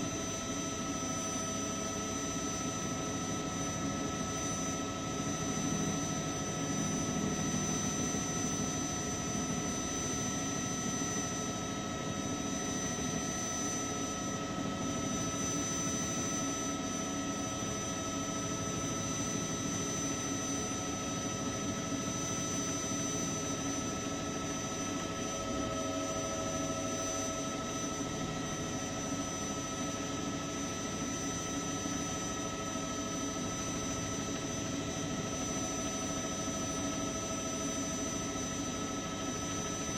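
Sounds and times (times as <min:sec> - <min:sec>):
helicopter turbine and rotors: 0:00.0 - 0:39.9.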